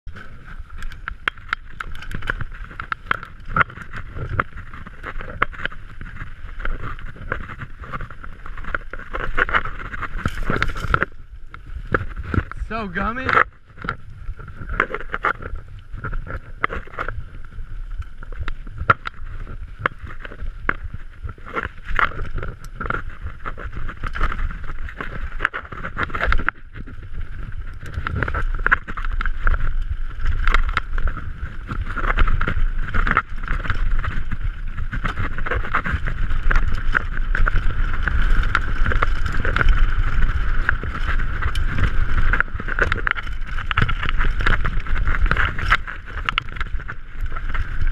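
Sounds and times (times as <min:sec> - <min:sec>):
wind rumble on microphone: 0:00.0 - 0:47.9
bike tyres on loose dirt: 0:00.1 - 0:47.9.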